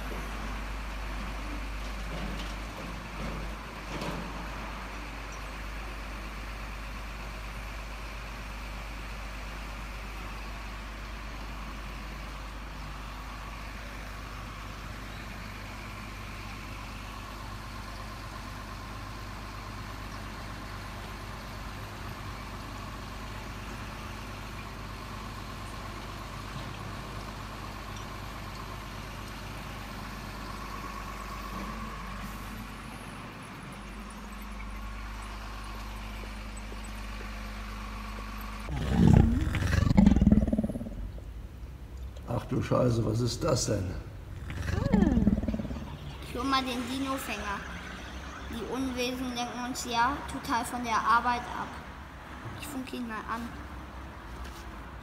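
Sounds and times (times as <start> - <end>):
truck engine idling: 2.7 - 51.2.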